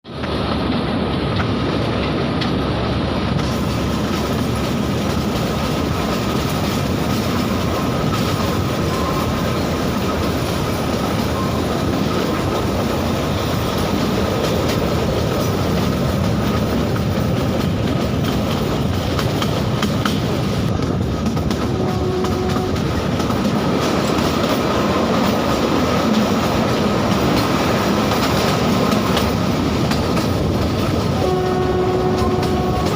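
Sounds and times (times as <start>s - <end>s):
train wheels rumbling: 0.0s - 32.9s.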